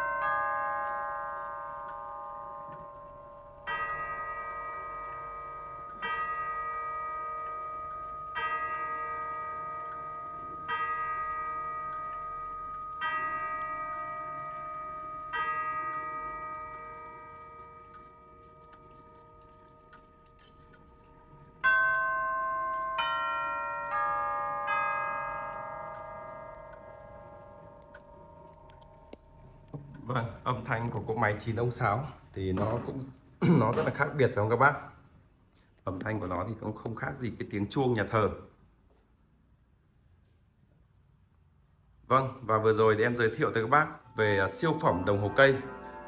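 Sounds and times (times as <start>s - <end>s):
clock chime tubes striking: 0.0s - 34.9s, 42.4s - 46.0s.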